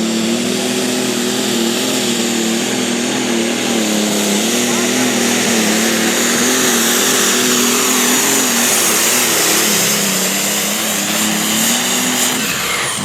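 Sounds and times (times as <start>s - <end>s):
vehicle engine running loudly: 0.0s - 13.0s.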